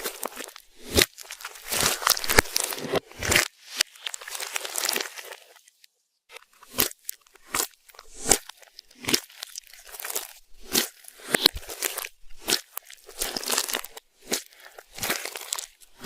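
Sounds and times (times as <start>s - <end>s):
crunchy slime squishing: 0.0s - 16.0s.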